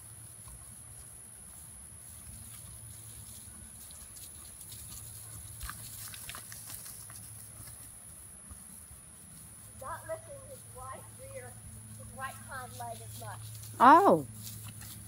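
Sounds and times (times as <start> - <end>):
hooves thudding on grass: 0.0 - 15.0.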